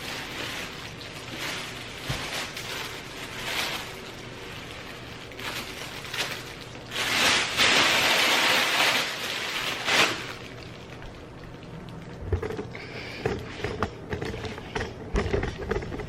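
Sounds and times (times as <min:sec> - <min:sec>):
packaging rustling and crinkling: 0:00.0 - 0:13.6.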